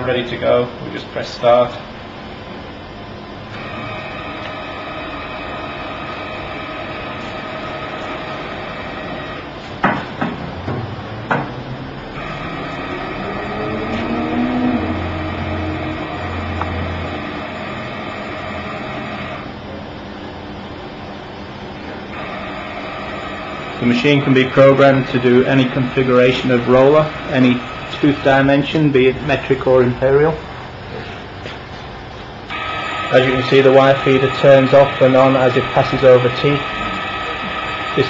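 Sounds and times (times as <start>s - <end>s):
welder electric hum: 0.0s - 38.0s.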